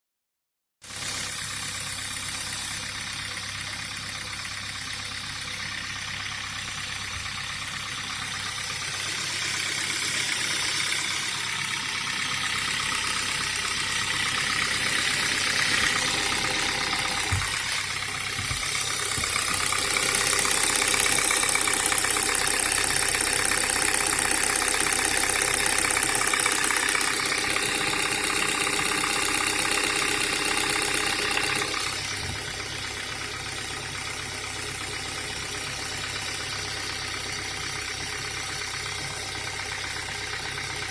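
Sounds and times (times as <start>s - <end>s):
car engine with mechanical noise: 0.8s - 40.9s.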